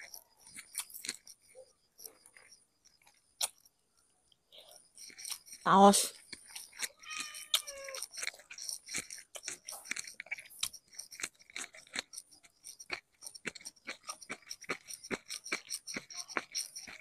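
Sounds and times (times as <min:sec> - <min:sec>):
person chewing soft food: 0:00.0 - 0:17.0.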